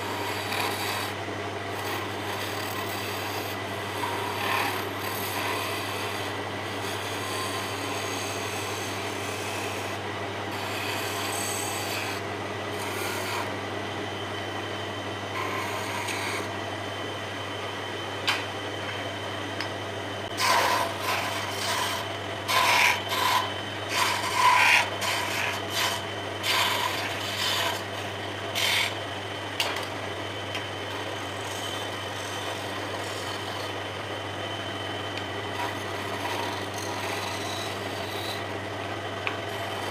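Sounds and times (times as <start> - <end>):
chisel cutting spinning wood: 0.0 - 18.5, 19.6 - 39.9
wood lathe humming: 0.0 - 19.0, 19.6 - 39.9.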